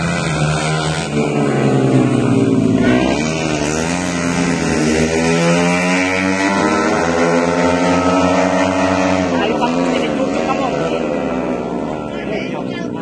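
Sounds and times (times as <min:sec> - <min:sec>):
motorcycles racing at high revs: 0:00.0 - 0:13.0.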